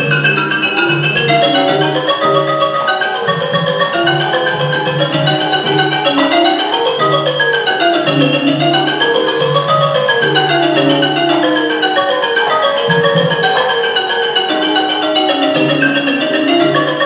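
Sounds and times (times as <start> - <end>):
hand drum: 0.0 - 17.0
xylophone fast runs: 0.0 - 17.0.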